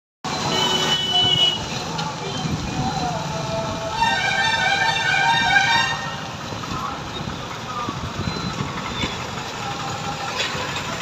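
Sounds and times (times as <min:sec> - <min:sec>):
vehicles passing: 0:00.3 - 0:11.0.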